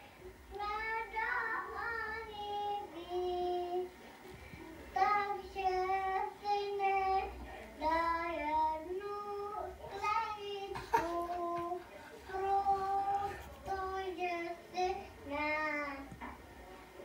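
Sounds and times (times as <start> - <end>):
toddler singing: 0.5 - 3.9, 5.0 - 16.2.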